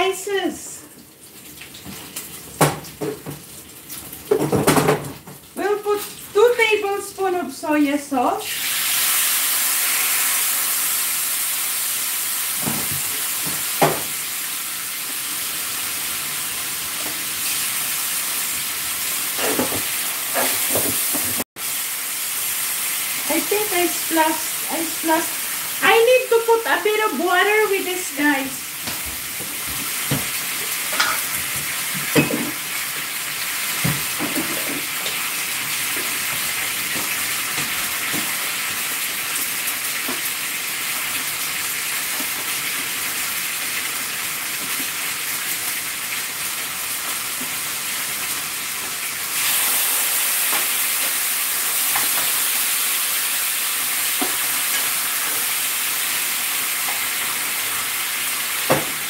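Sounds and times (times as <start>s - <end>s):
meat sizzling in a pan: 8.4s - 59.0s.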